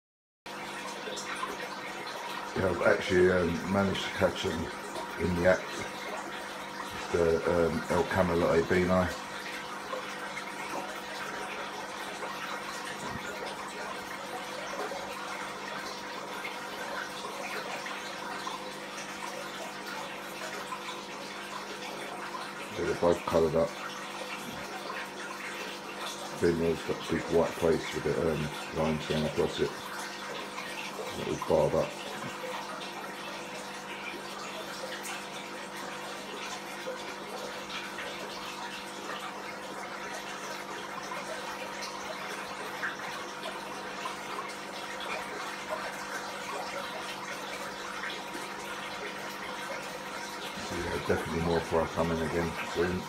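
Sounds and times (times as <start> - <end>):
aquarium water trickling: 0.5 - 53.0
faint pump hum: 0.5 - 53.0.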